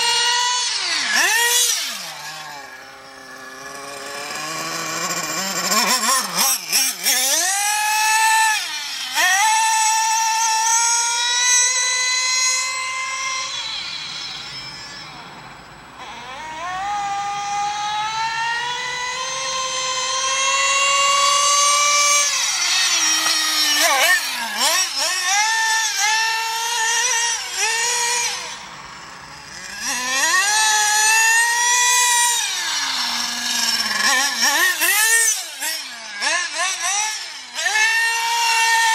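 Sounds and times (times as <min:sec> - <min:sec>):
rc car engine revving: 0:00.0 - 0:38.9.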